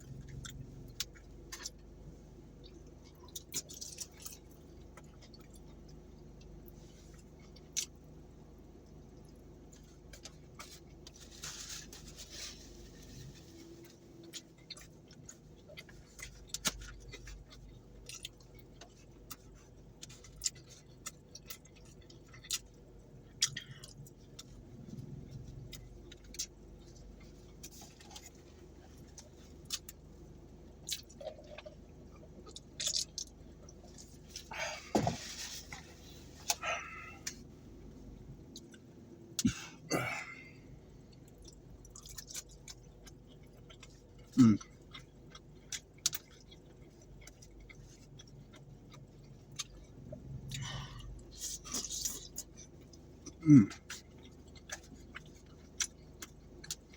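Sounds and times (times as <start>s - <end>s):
close-up chewing: 0.0s - 2.0s, 2.6s - 8.0s, 9.0s - 56.9s.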